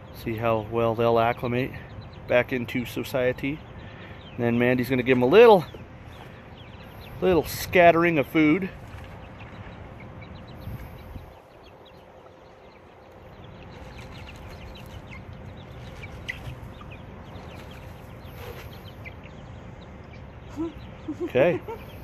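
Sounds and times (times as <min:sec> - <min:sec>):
chicks peeping and clucking: 0:00.0 - 0:22.0.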